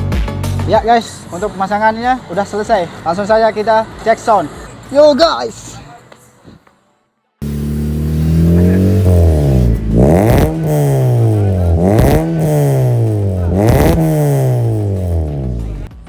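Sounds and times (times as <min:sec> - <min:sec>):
car engine revving: 0:00.6 - 0:06.0, 0:07.4 - 0:16.0.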